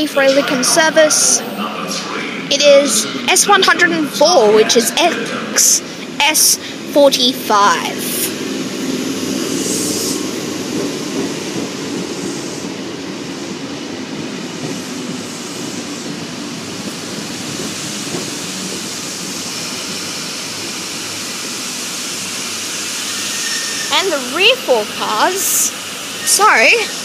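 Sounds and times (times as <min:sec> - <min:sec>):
electric train rumbling past: 0:00.0 - 0:27.0.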